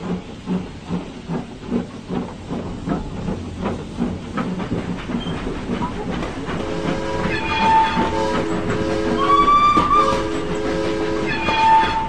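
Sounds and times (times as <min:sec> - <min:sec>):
steam hissing: 0:00.0 - 0:12.0
steam locomotive chuffing: 0:00.0 - 0:12.0.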